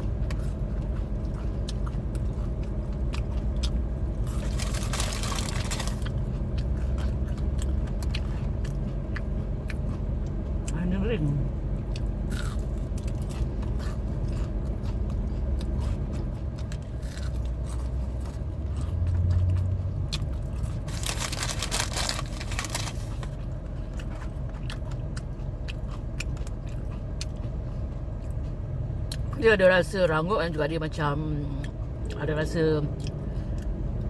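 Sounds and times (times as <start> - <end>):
crunching and chewing onion ring: 0.0 - 29.6, 31.3 - 34.0.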